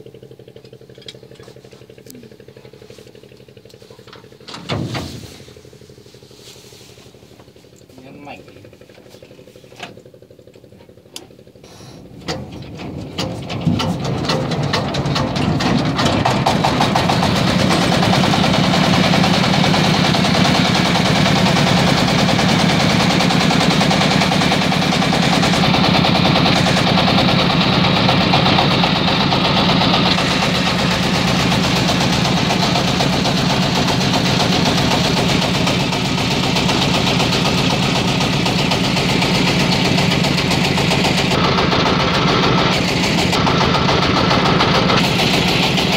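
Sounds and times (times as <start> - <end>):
boat engine starting and running: 0.0 - 45.9.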